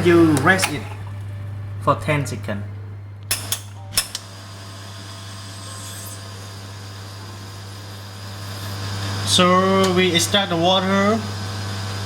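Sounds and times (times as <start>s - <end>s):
espresso machine hum and hiss: 0.0s - 1.9s, 3.3s - 12.0s.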